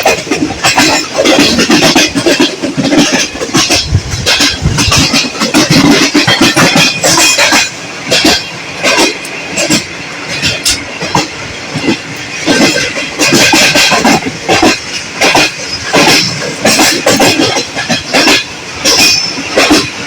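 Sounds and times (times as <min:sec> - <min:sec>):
train wheels clattering on track: 0:00.0 - 0:20.0.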